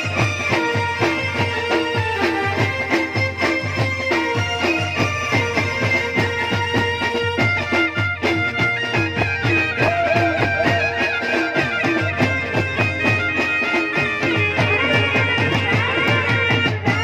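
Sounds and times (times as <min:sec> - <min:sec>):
fast drum beat: 0:00.0 - 0:17.0.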